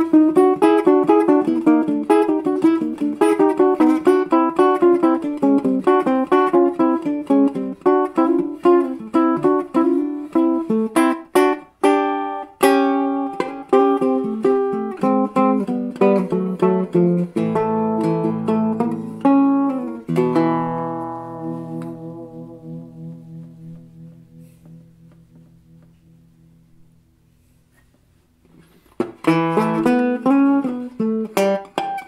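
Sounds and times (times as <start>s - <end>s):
acoustic guitar music: 0.0s - 32.0s.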